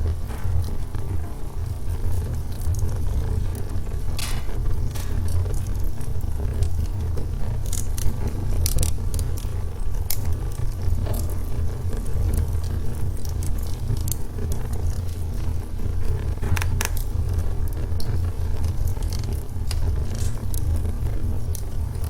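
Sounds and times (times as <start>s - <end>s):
logs crackling in fireplace: 0.0s - 22.0s
sharp pops from fire: 0.1s - 22.0s.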